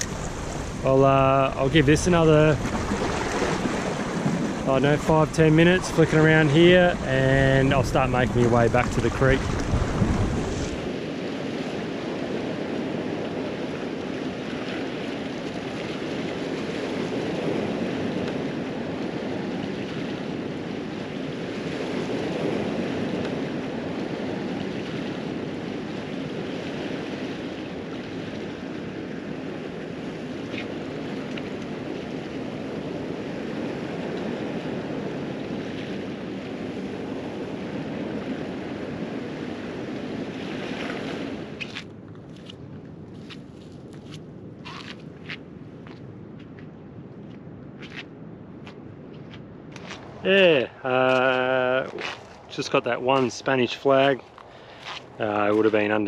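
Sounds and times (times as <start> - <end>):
sea waves washing over rocks: 0.0 - 42.0, 49.8 - 56.0.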